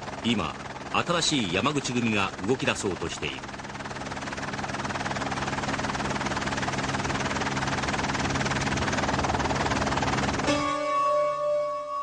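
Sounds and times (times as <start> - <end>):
helicopter rotor chop: 0.0 - 10.9
helicopter engine hum: 0.0 - 11.6.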